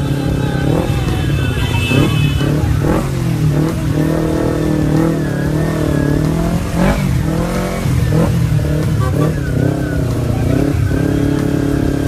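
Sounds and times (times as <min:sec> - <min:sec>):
scooter and motorcycle engines revving: 0:00.0 - 0:12.0.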